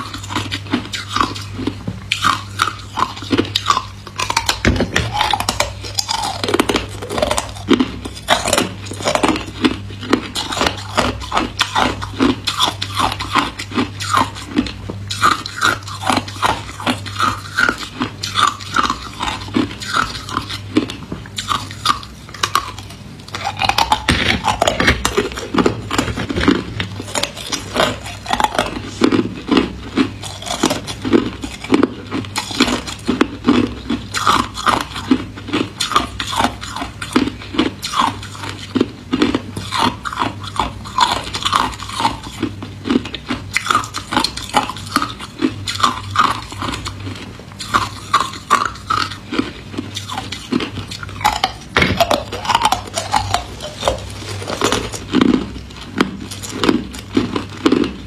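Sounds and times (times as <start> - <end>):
ice cubes being chewed: 0.0 - 58.0.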